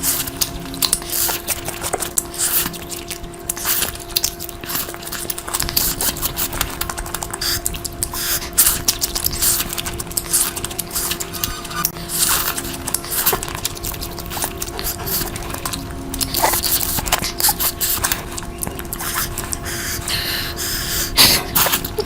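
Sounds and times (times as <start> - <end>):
steady low hum: 0.0 - 22.0
wet chewing and smacking: 0.0 - 22.0.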